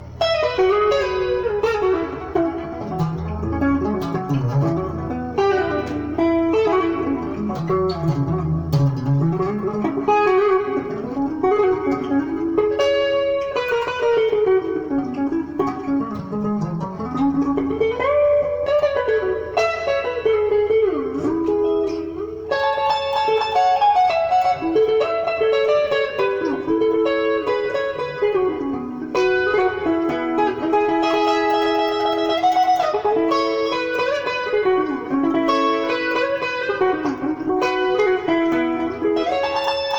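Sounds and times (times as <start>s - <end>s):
guitar picking quick melodic runs: 0.0s - 39.9s.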